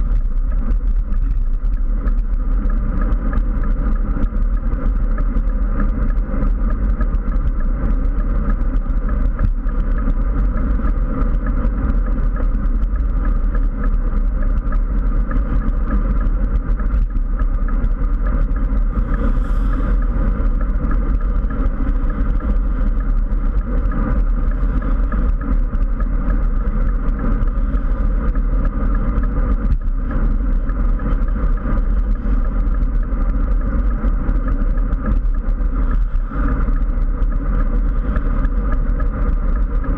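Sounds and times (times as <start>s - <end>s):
deep rumble: 0.0s - 39.9s.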